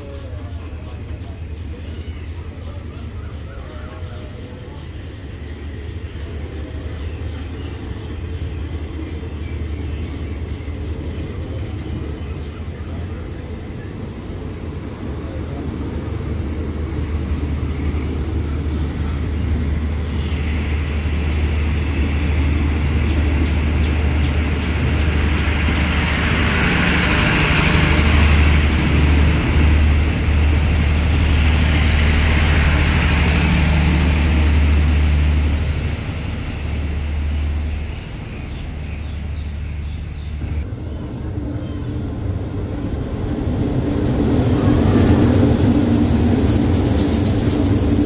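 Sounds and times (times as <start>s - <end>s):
steel wheels rumbling on rails: 0.0s - 48.0s.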